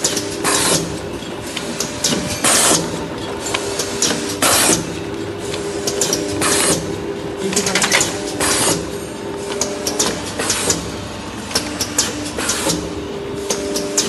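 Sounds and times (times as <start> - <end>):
machine pressing bowls: 0.0 - 14.0
steady machine hum: 0.0 - 14.0.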